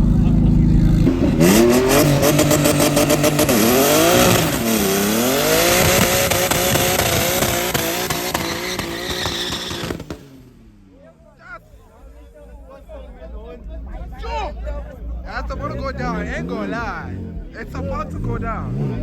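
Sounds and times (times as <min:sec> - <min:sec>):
car engines accelerating hard: 0:00.0 - 0:19.0.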